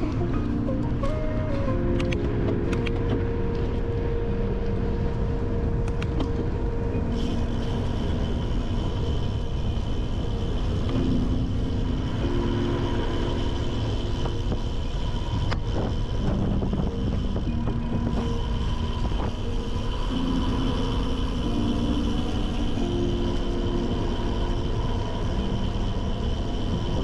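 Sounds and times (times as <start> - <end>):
bicycle tyre noise: 0.0 - 27.0
low wind rumble: 0.0 - 27.0.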